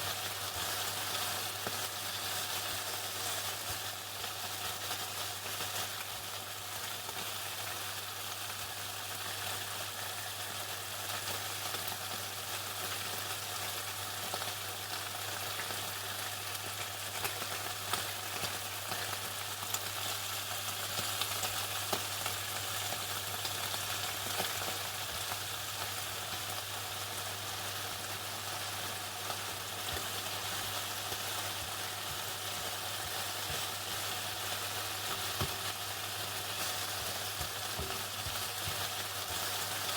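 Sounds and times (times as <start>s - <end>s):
chicken frying in hot oil: 0.0s - 39.9s.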